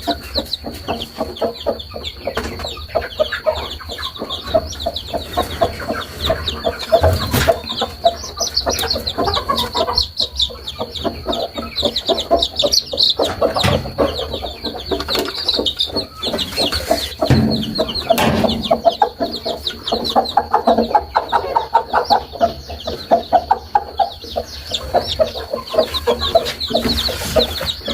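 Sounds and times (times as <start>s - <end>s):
chickens clucking: 0.0s - 27.9s
chicks peeping: 0.0s - 27.9s.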